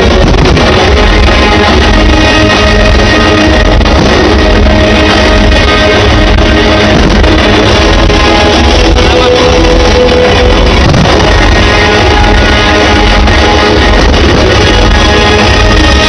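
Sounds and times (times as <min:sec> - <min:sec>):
loud rock music with guitar: 0:00.0 - 0:16.0.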